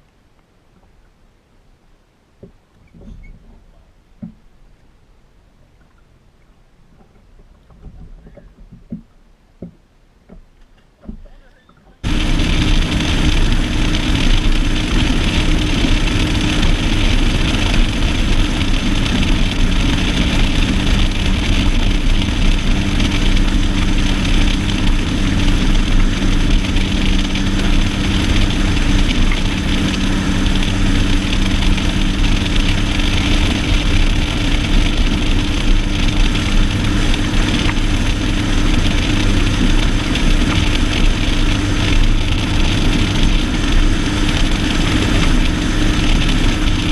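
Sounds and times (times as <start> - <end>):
outboard motor running: 2.4 - 46.9.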